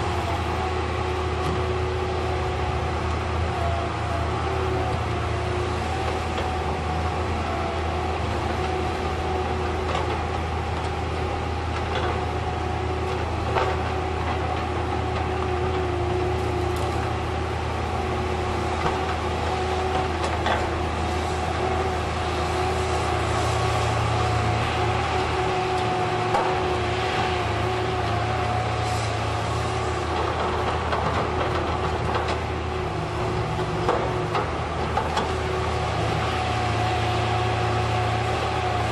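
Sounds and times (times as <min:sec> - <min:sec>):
diesel machinery drone: 0:00.0 - 0:38.9.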